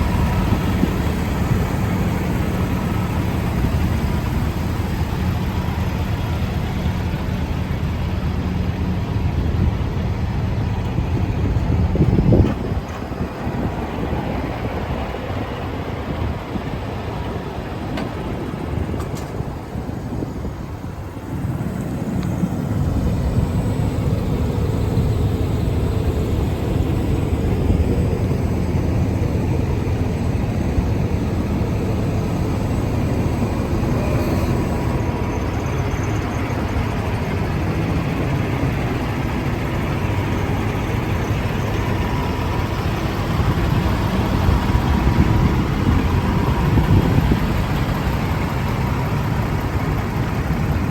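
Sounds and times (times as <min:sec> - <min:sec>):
truck diesel engine idling: 0:00.0 - 0:50.9.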